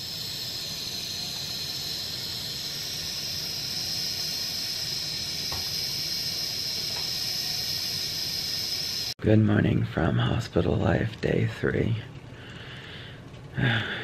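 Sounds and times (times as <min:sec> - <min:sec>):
low hum: 0:00.0 - 0:14.0
steady high hiss: 0:00.0 - 0:14.0.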